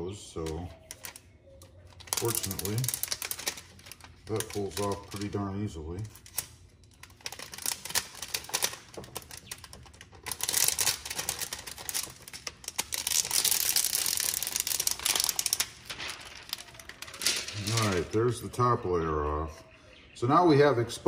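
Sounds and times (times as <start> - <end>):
plastic film crinkling as peeled: 0.4 - 18.6.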